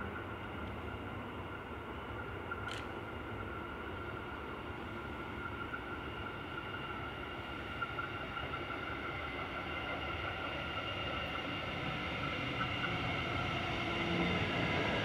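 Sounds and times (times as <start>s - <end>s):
electric train rumbling and whining: 0.0s - 15.0s.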